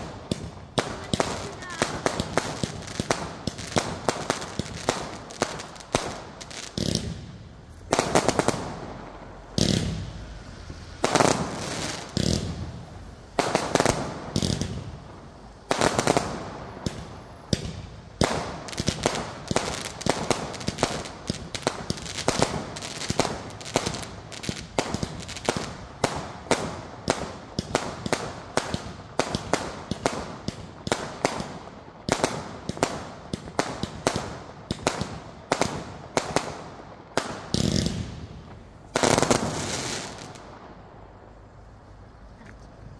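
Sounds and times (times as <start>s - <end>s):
fireworks launching and banging: 0.0s - 40.9s.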